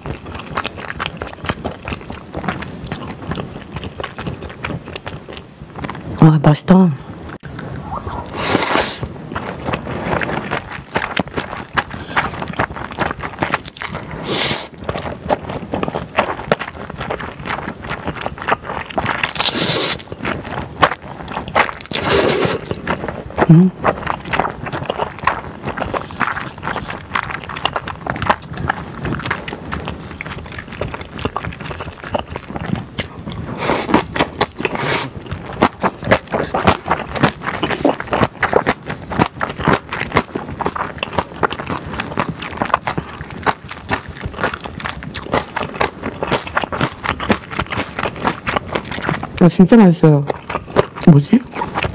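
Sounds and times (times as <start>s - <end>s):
noodles slurped and chewed: 0.0s - 6.3s, 7.2s - 51.9s.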